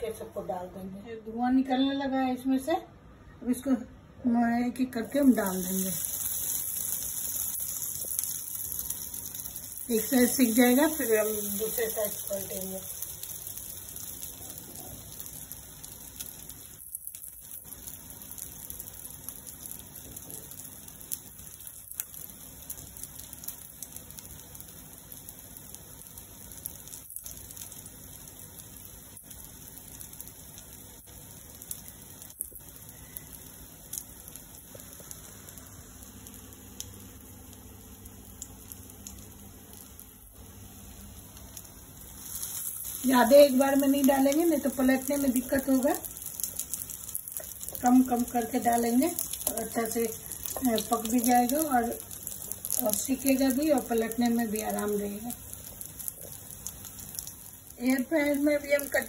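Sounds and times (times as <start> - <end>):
cutlets sizzling in oil: 4.8 - 59.0.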